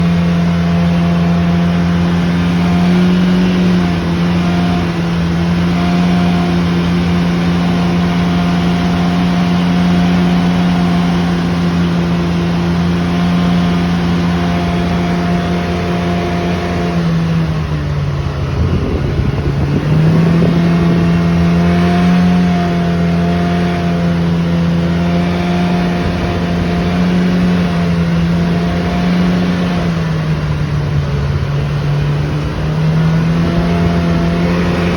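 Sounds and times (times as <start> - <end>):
vehicle droning: 0.0 - 34.9.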